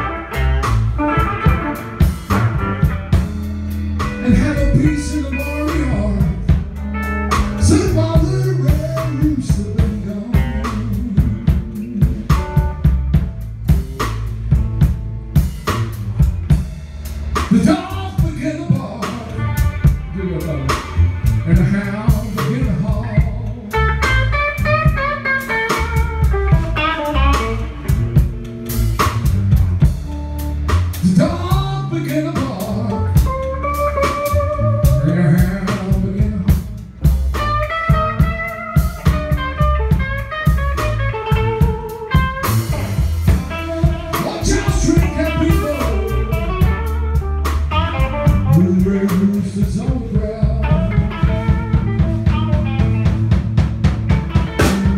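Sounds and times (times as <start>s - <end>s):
electric guitar bending notes: 0.0s - 54.9s
live blues band playing: 0.0s - 54.9s.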